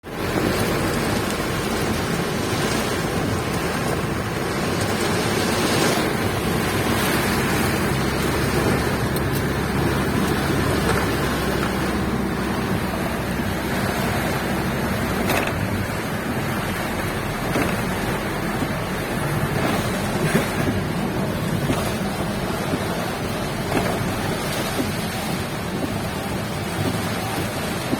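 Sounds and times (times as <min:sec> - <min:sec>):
wind and rain rushing: 0:00.0 - 0:27.9
wind buffeting microphone: 0:00.0 - 0:27.9.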